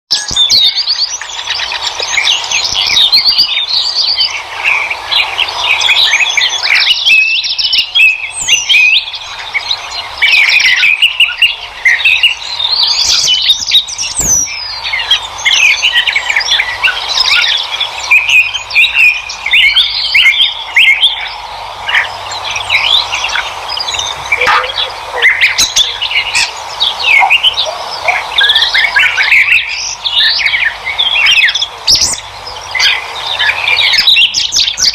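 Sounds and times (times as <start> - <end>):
songbirds chirping and singing: 0.1 - 34.9.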